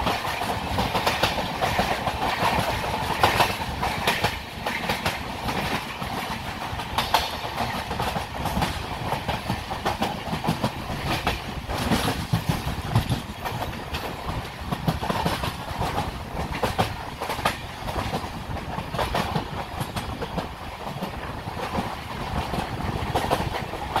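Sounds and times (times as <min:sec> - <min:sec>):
train low rumble: 0:00.0 - 0:24.0
wheels clacking over rail joints: 0:00.0 - 0:24.0.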